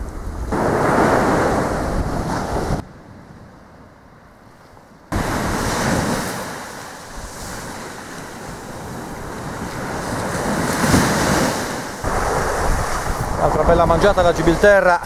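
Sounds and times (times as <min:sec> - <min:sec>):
surf washing onto shore: 0:00.0 - 0:02.8, 0:05.1 - 0:15.0
wind buffeting microphone: 0:00.0 - 0:04.4, 0:05.0 - 0:15.0.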